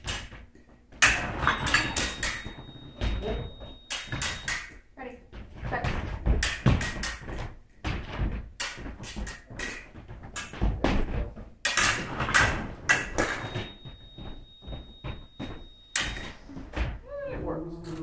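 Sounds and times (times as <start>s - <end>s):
hard objects knocking and clacking: 0.0s - 4.8s, 5.4s - 16.9s.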